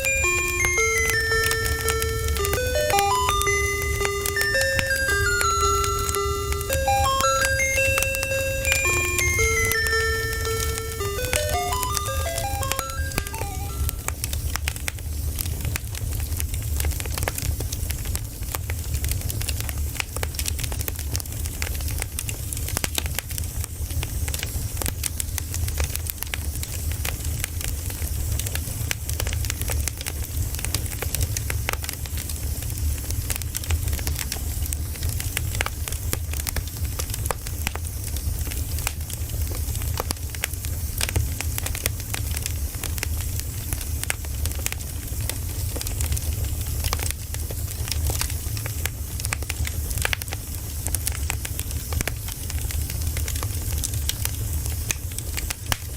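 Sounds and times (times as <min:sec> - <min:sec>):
wood crackling and popping: 0:00.0 - 0:55.9.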